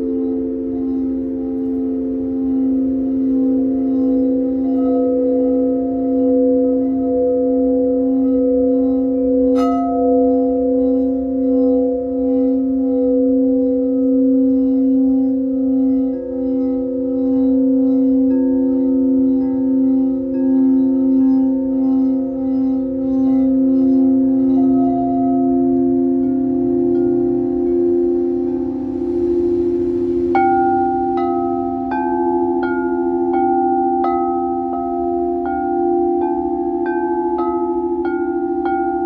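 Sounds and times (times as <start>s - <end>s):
crystal singing bowls ringing: 0.0s - 39.0s.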